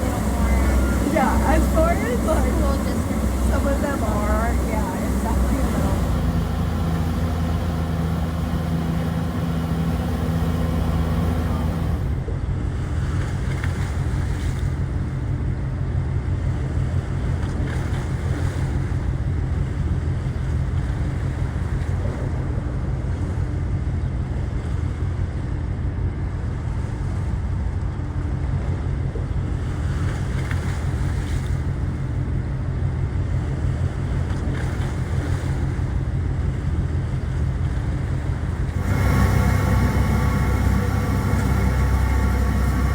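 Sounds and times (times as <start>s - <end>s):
boat engine droning: 0.0s - 42.9s
wind and water noise: 0.0s - 42.9s.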